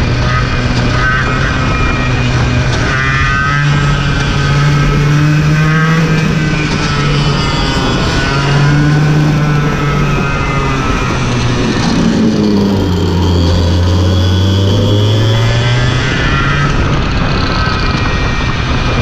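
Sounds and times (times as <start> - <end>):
go-kart engine revving: 0.0 - 19.0.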